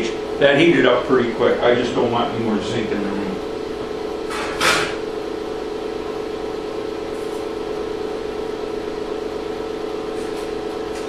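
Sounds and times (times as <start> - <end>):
induction heater humming: 0.0 - 11.0.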